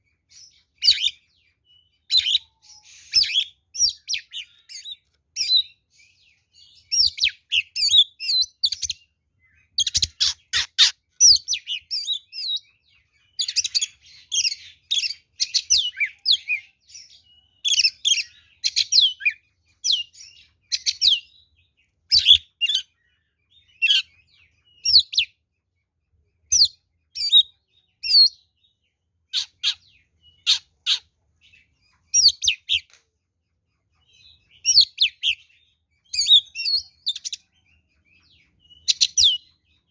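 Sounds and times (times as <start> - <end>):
bird song whistles and chirps: 0.0 - 25.5, 26.1 - 33.1, 33.7 - 39.9.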